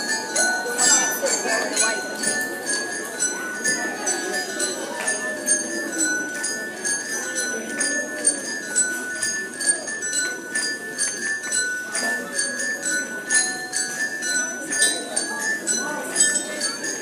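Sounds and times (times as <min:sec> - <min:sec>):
xylophones played with mallets: 0:00.0 - 0:17.0.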